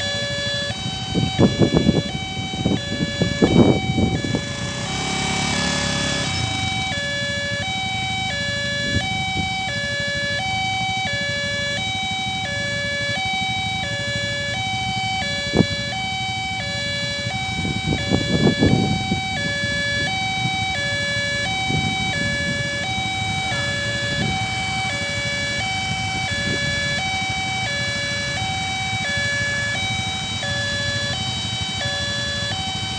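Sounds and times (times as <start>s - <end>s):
steady high tone: 0.0s - 32.9s
two-note crossing alarm: 0.0s - 32.9s.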